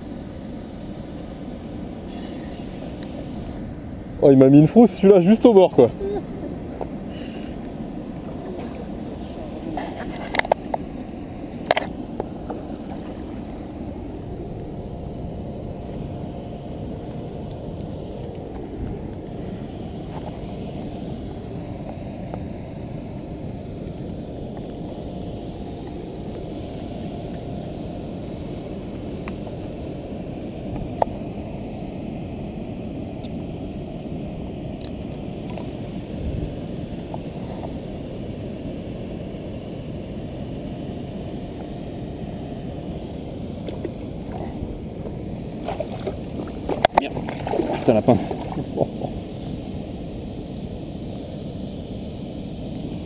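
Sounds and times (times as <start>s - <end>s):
muffled river water rushing: 0.0s - 33.1s, 41.1s - 50.7s.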